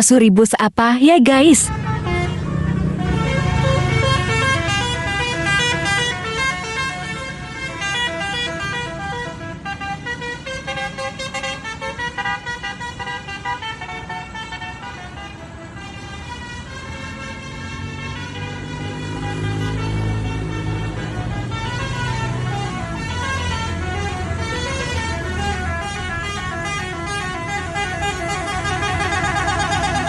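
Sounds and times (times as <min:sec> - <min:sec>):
musical air horn toots: 0:01.6 - 0:30.0.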